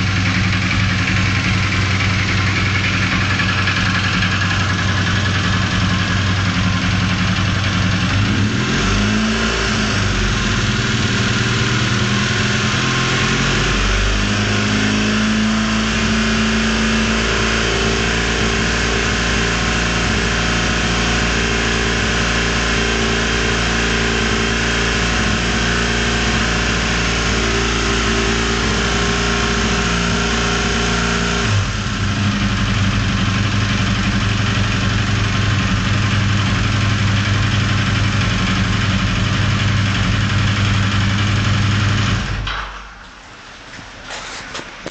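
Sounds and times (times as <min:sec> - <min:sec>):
motorcycle engine revving: 0:00.0 - 0:42.8.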